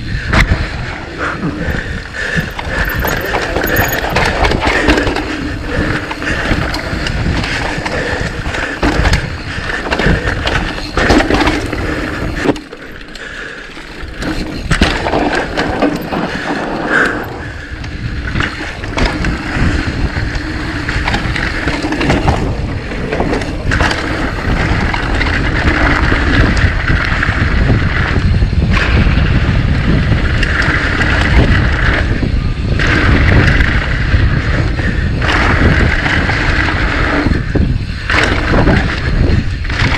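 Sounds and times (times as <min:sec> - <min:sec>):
bike rattling over bumps: 0:00.0 - 0:39.9
bike tyres rolling over rough ground: 0:00.0 - 0:39.9.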